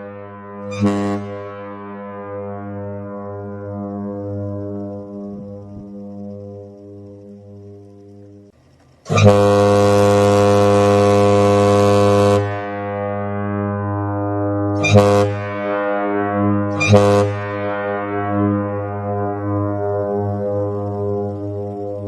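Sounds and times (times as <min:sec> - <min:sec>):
low drone: 0:00.0 - 0:22.0
deep horn blasts: 0:00.5 - 0:07.4, 0:09.1 - 0:22.0.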